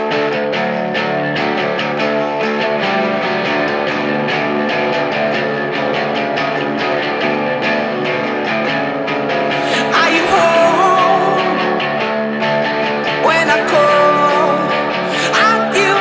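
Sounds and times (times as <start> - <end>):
bass guitar: 0.0 - 16.0
guitar strumming chords: 0.0 - 16.0.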